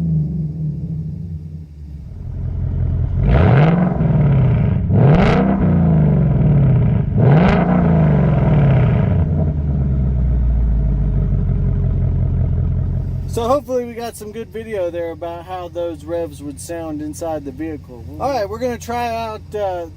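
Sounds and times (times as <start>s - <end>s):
car engine idling and revving: 0.0s - 19.9s.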